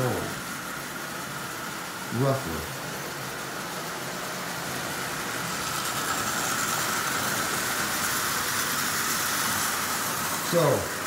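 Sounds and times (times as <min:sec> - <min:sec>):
toy train motor whine: 0:00.0 - 0:11.0.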